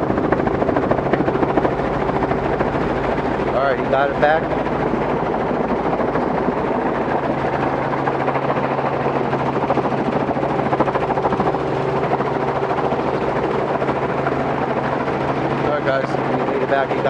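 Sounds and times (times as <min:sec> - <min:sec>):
helicopter rotor pulsing: 0:00.0 - 0:17.0
low hum: 0:00.0 - 0:17.0.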